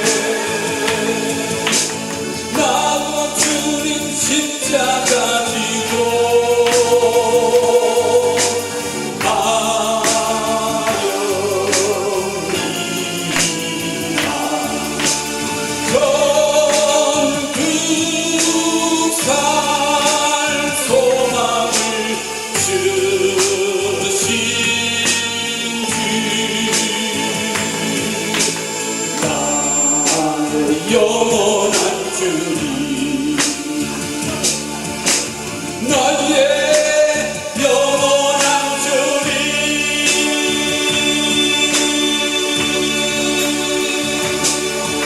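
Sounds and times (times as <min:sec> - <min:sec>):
man singing a hymn into a microphone: 0:00.0 - 0:34.7, 0:35.8 - 0:45.0
electronic keyboard with steady beat: 0:00.0 - 0:45.0.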